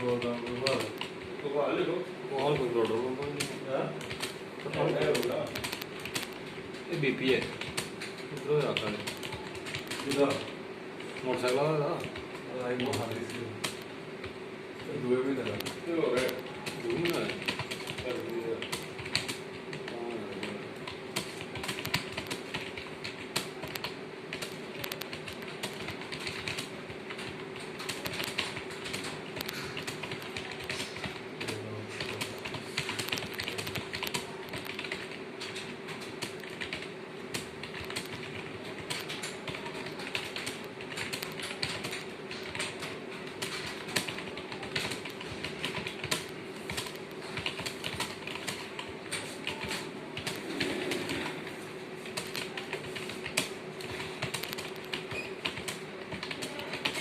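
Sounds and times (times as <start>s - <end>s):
fast keyboard typing: 0.0s - 57.0s
steady hum: 0.0s - 57.0s.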